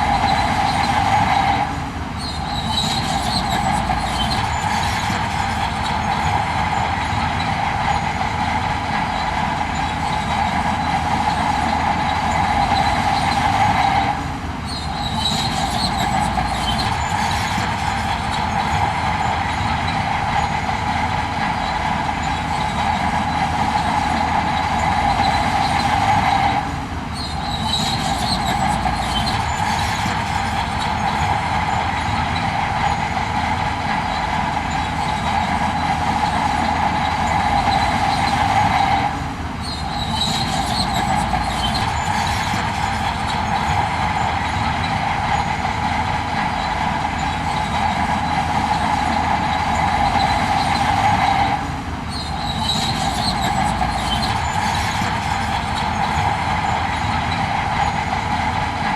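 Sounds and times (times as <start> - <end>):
heavy machinery drone: 0.0 - 58.9.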